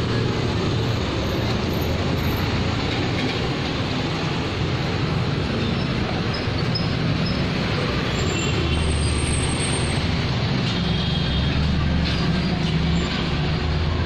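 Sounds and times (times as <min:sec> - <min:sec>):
traffic rumble and hiss: 0:00.0 - 0:14.0.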